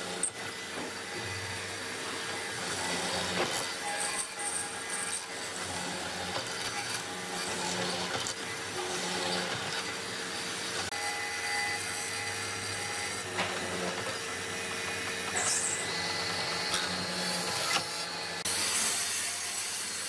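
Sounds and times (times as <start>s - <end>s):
power tool cutting wood: 0.0s - 20.0s.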